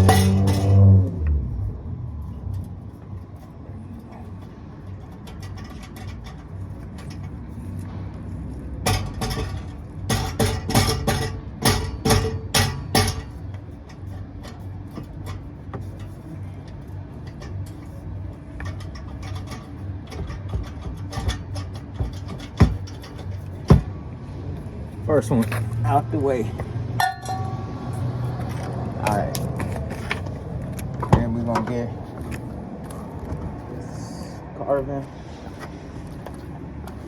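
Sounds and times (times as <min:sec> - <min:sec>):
low vehicle rumble: 0:00.0 - 0:37.0.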